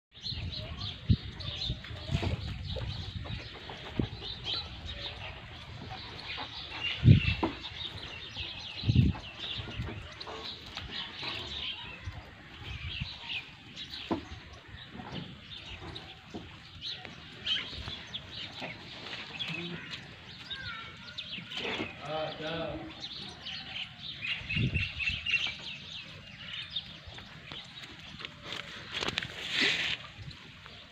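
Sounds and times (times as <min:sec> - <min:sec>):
small birds chirping: 0:00.1 - 0:30.9.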